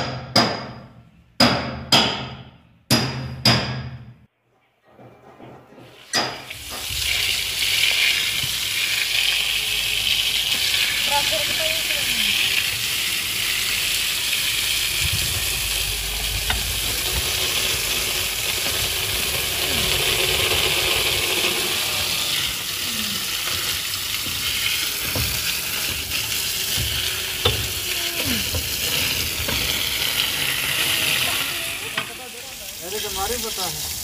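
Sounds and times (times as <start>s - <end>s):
water splashing on metal tines: 5.8s - 34.0s.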